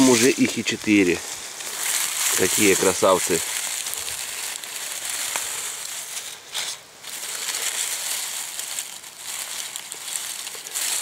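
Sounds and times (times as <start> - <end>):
dry leaves rustling and crackling: 0.0 - 11.0.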